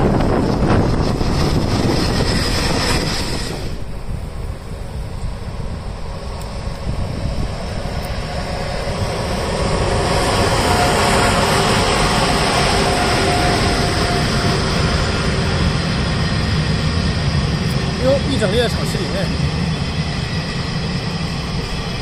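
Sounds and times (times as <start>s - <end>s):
locomotive rumble: 0.0s - 22.0s
locomotive whine: 0.0s - 22.0s.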